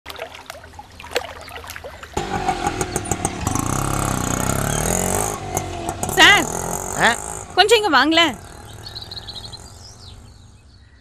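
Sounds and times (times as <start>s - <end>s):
car engine slowing: 2.1s - 11.0s.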